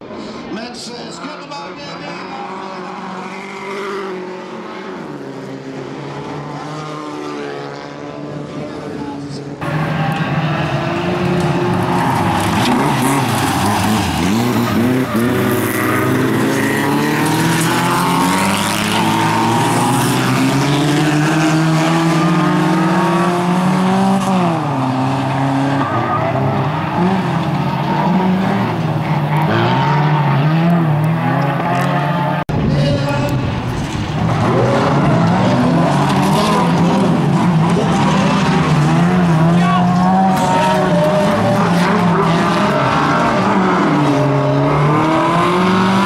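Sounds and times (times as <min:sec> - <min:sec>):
race car engines revving: 0:00.0 - 0:46.0.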